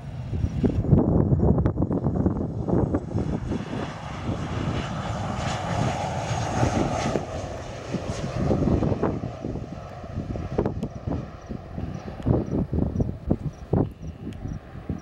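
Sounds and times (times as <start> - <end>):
airliner engines rushing: 0.0 - 15.0
wind rumble on microphone: 0.0 - 15.0.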